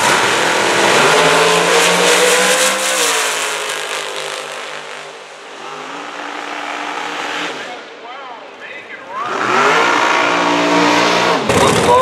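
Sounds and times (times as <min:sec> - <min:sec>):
race engines at full throttle: 0:00.0 - 0:12.0.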